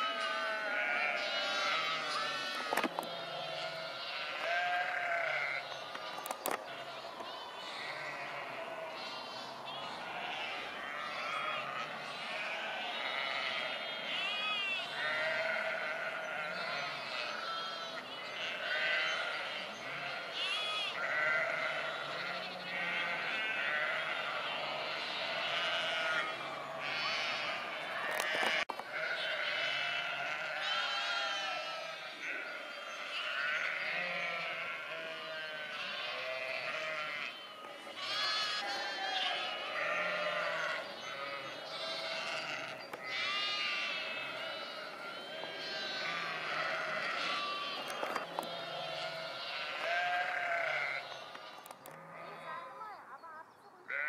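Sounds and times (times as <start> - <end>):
sheep bleating: 0.0 - 53.0.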